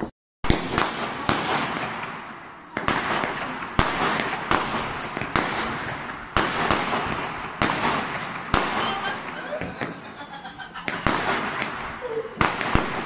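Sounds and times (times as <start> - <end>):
fireworks bangs: 0.4 - 13.0
crackling hiss: 0.5 - 13.0.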